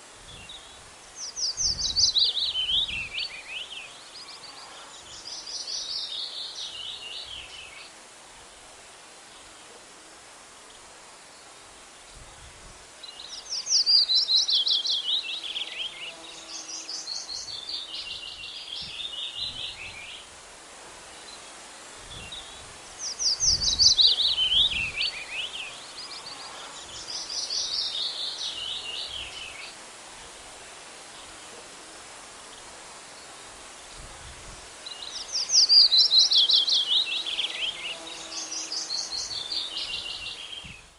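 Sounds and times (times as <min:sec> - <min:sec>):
steady outdoor hiss: 0:00.0 - 0:40.9.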